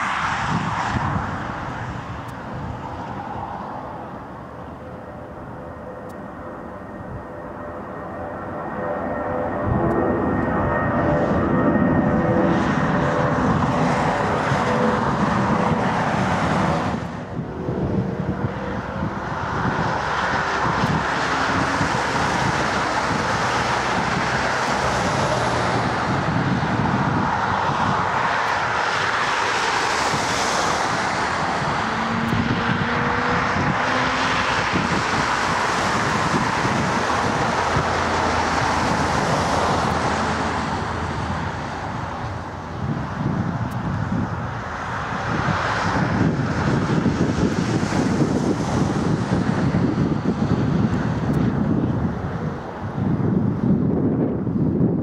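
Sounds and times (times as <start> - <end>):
jet airliner engines: 0.0 - 55.0.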